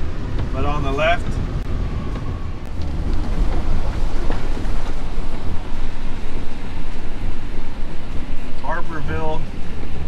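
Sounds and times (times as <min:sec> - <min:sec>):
tyres on wet road: 0:00.0 - 0:10.0
vehicle engine rumble: 0:00.0 - 0:10.0.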